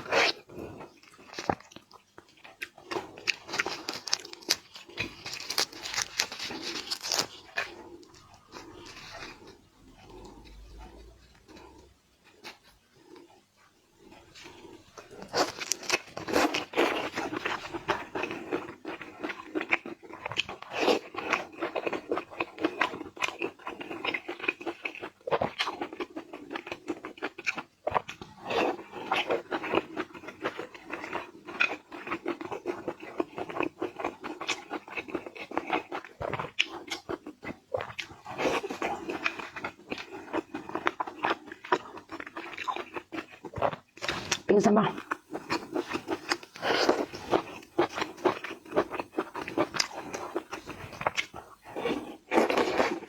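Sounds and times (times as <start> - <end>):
person chewing crunchy seafood: 0.0 - 53.0.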